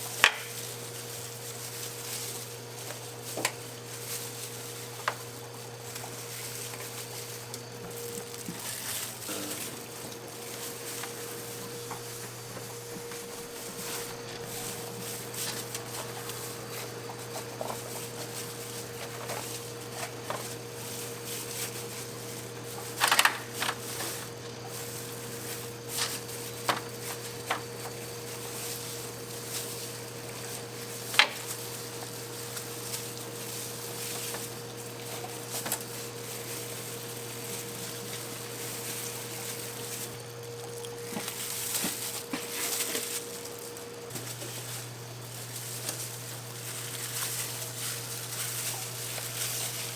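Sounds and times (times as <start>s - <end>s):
machine hum: 0.0s - 49.9s.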